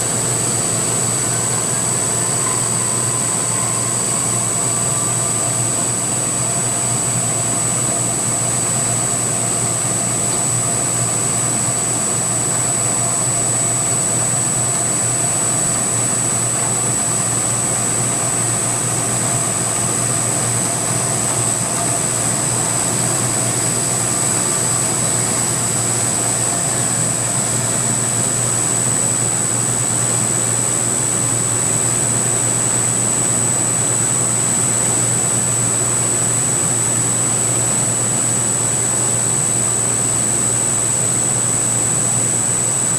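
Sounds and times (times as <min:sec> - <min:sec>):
high-pitched whine: 0:00.0 - 0:42.9.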